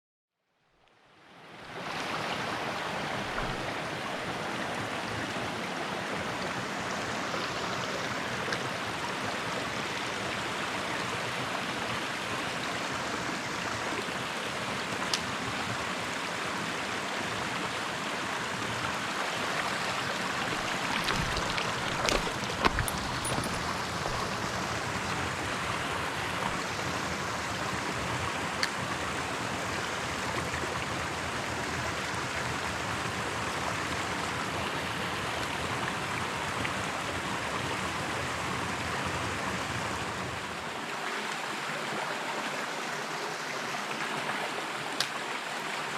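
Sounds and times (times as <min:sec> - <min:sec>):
stream rushing over rocks: 0:01.2 - 0:45.9.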